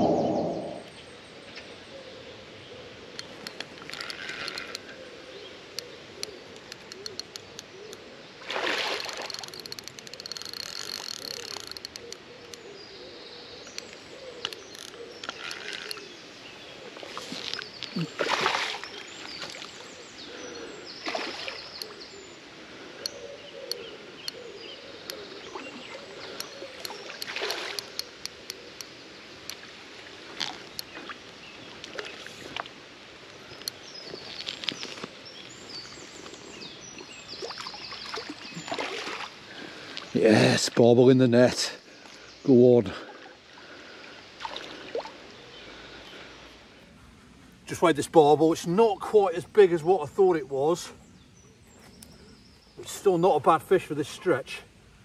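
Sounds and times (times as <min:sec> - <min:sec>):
birds calling and singing: 0:00.0 - 0:55.0
faint moving water: 0:00.0 - 0:55.0.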